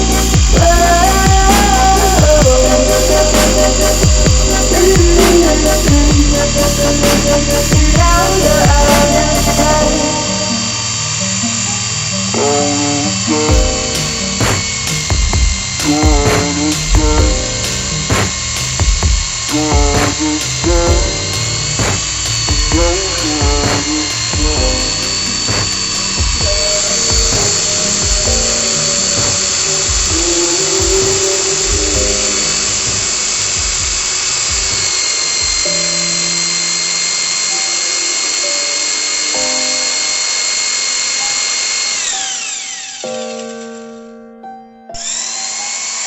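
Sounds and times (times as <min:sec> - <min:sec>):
song playing: 0:00.0 - 0:40.5
electric drill whining: 0:00.0 - 0:43.8, 0:45.0 - 0:46.0.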